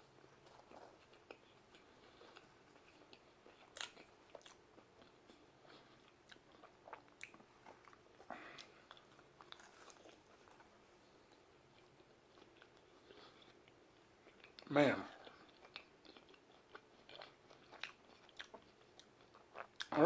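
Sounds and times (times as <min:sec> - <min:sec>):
person chewing with wet smacks: 0:00.0 - 0:20.0.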